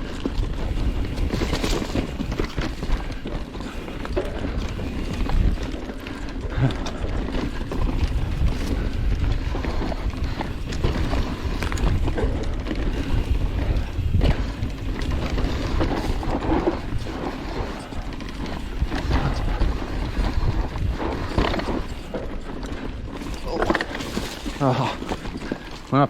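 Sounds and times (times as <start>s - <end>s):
wind rumbling on microphone: 0.0s - 25.9s
bike rattling over bumps: 0.0s - 26.0s
bike tyres on dirt and rocks: 0.0s - 26.0s.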